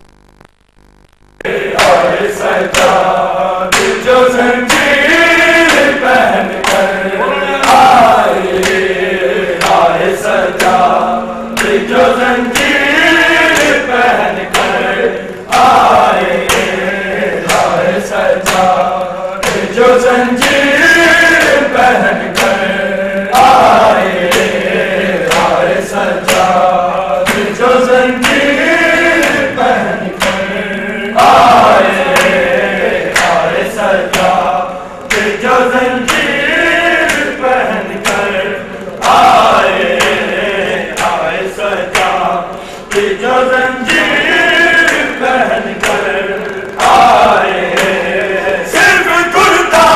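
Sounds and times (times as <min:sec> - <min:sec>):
men chanting in unison: 0:01.5 - 0:49.9.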